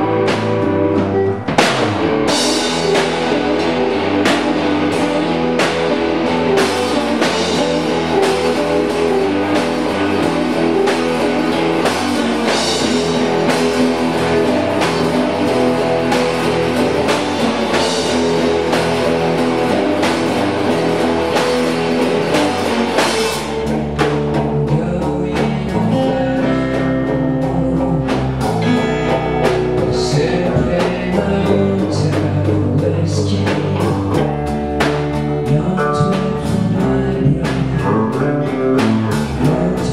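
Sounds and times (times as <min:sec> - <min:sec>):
person singing: 0:00.0 - 0:34.5, 0:35.1 - 0:39.9
bass guitar: 0:00.0 - 0:39.9
drum kit: 0:00.0 - 0:39.9
guitar: 0:00.0 - 0:39.9.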